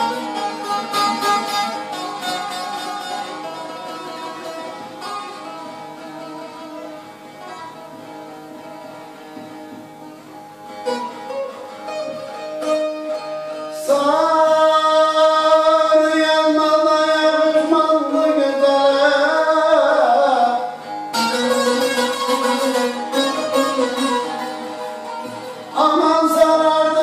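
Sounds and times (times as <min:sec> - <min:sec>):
plucked long-necked lute: 0:00.0 - 0:27.0.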